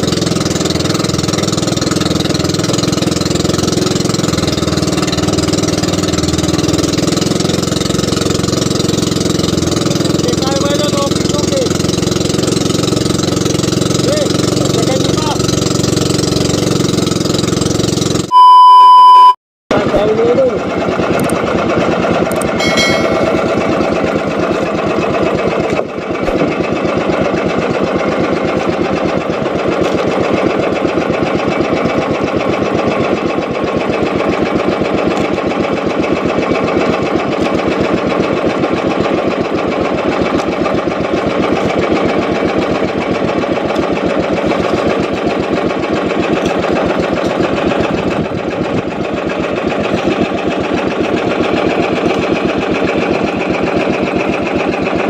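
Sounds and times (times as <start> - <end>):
boat engine puttering: 0.0 - 18.3, 19.7 - 55.0.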